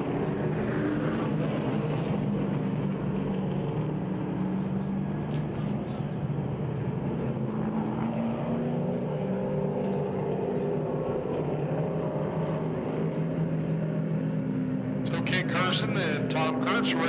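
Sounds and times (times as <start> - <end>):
stock car engines droning: 0.0 - 17.0.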